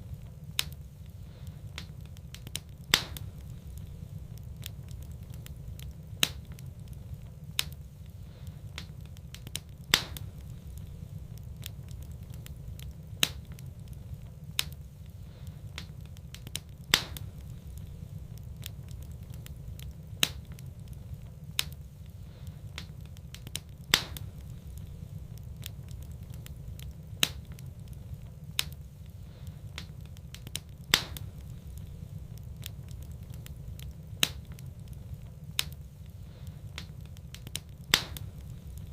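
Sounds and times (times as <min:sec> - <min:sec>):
steady low rumble: 0:00.0 - 0:38.9
wood fire crackling and popping: 0:00.0 - 0:38.9.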